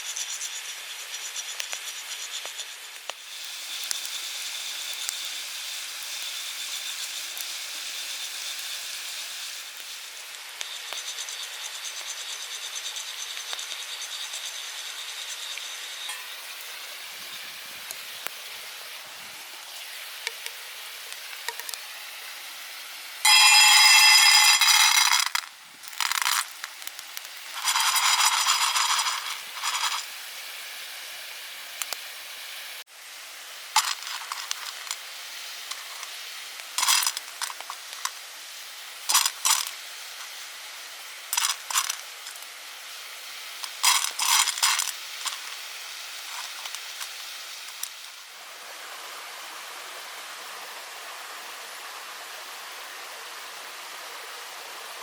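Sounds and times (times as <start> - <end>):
steady outdoor hiss: 0.0 - 55.0.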